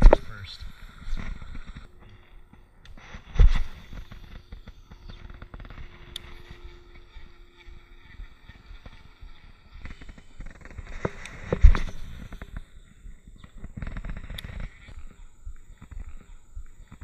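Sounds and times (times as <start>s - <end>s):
fishing reel whirring: 0.0s - 17.0s.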